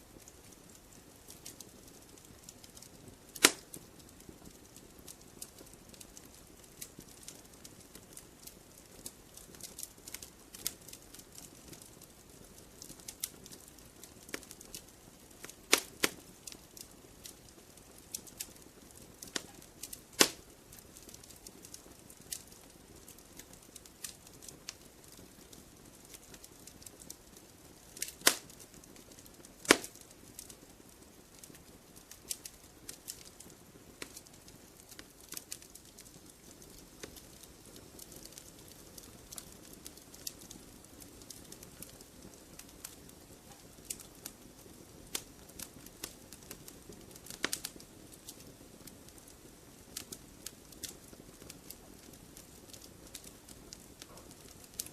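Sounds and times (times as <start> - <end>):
faint hiss: 0.0 - 54.9
wood fire crackling: 0.0 - 54.9.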